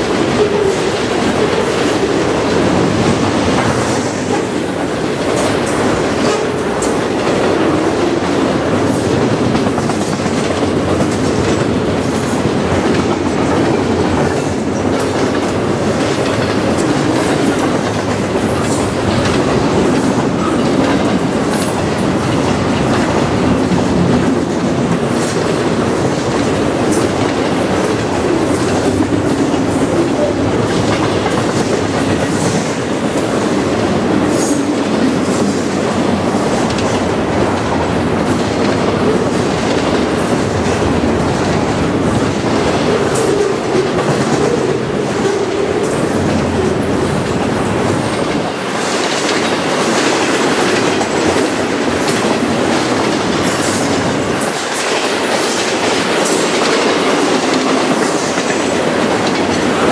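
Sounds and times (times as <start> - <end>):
train rumble: 0.0 - 59.9
train wheels clattering over rail joints: 0.0 - 59.9.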